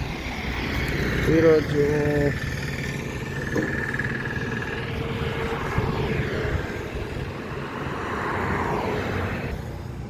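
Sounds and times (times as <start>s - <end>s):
vehicle whooshing past: 0.0s - 9.9s
traffic rumble: 0.0s - 10.0s.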